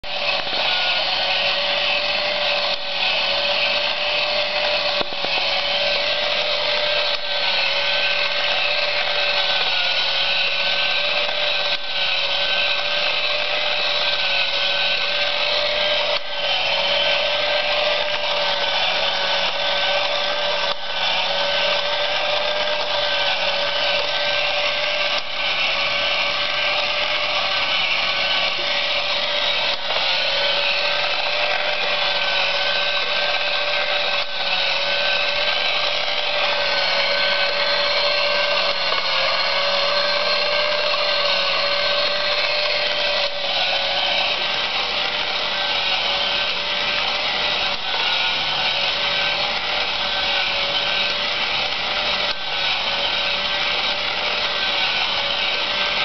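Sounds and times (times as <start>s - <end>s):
small motor whining: 0.0s - 56.0s.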